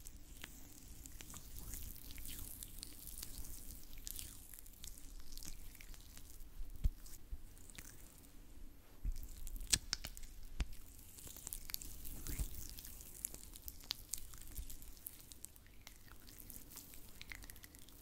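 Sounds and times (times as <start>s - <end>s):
oily hands squishing on skin: 0.0s - 8.3s, 9.1s - 18.0s.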